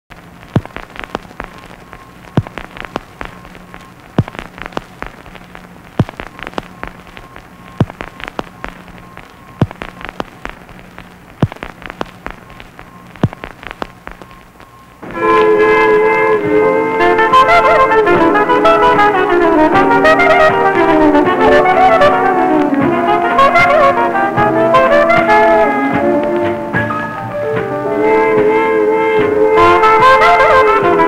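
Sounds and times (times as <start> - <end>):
faint low hum: 0.1 - 31.0
soundtrack surface crackle: 0.1 - 31.0.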